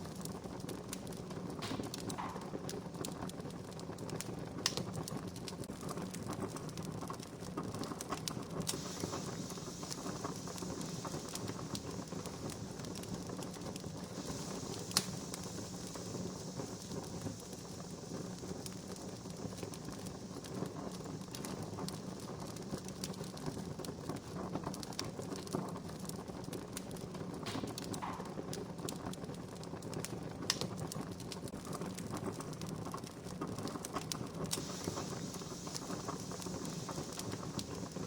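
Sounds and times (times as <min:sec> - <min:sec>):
fire pops: 0:00.0 - 0:38.0
wood fire crackling: 0:00.0 - 0:38.0.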